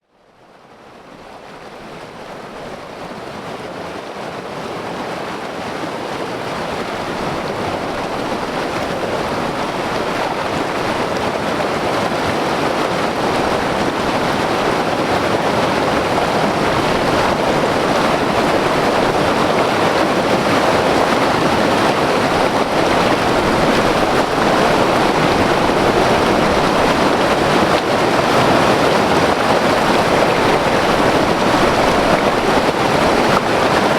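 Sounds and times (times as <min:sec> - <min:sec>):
river rushing over rocks: 0:00.3 - 0:33.9.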